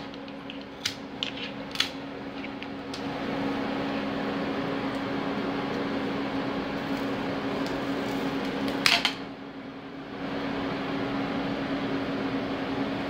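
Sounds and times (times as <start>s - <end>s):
milling machine humming: 0.0s - 13.0s.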